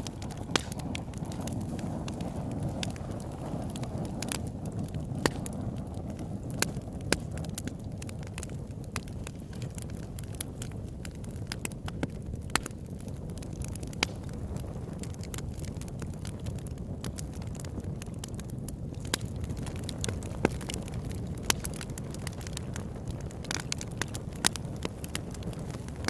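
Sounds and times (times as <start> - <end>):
campfire crackling and popping: 0.0 - 26.0
low rush of flame: 0.0 - 26.0.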